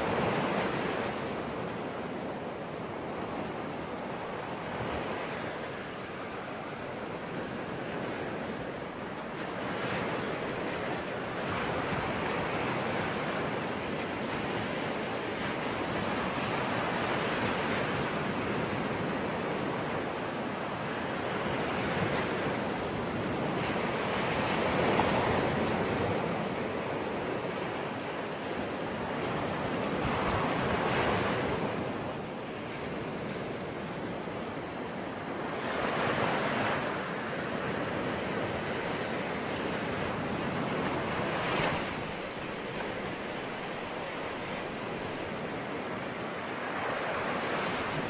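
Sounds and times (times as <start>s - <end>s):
sea waves breaking on shore: 0.0s - 48.0s.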